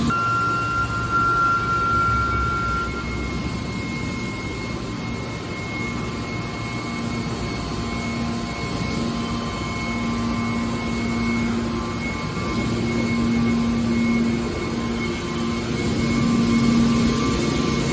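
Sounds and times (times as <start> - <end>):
baler machine drone with whine: 0.0 - 17.9
low machine hum: 0.0 - 17.9.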